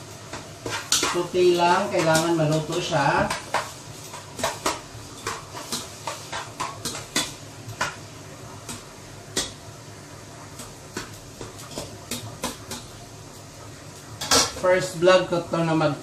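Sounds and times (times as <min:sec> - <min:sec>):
onion and garlic sauteing: 0:00.0 - 0:16.0.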